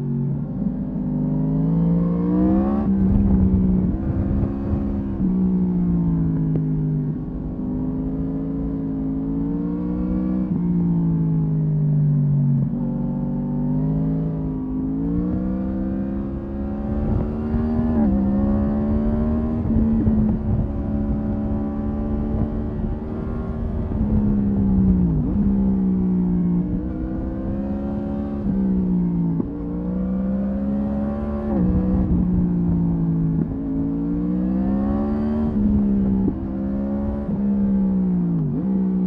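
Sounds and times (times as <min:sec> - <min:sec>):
wind rumble on microphone: 0:00.0 - 0:12.9, 0:14.0 - 0:39.0
motorcycle engine revving: 0:00.7 - 0:11.5, 0:12.6 - 0:39.0.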